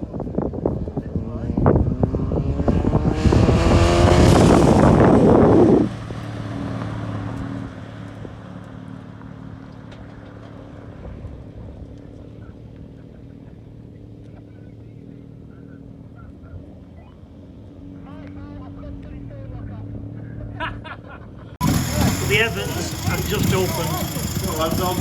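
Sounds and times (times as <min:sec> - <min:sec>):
car engines at full throttle: 0:00.0 - 0:25.0.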